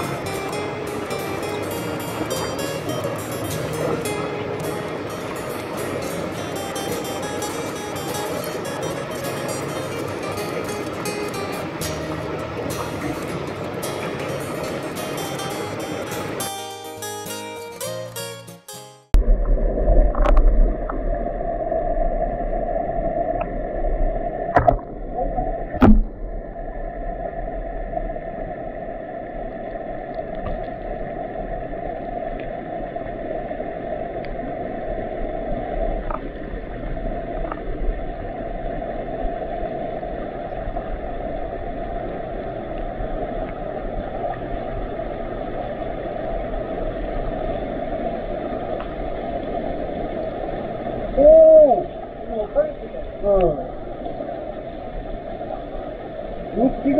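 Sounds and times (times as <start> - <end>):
underwater rush of flowing water: 0.0 - 18.3, 19.1 - 56.9.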